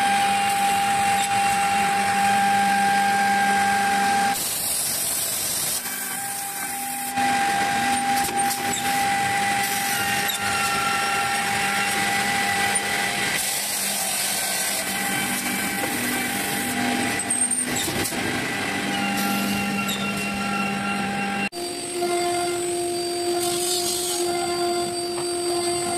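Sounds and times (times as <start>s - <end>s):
machine motor hum and whine: 0.0s - 25.9s.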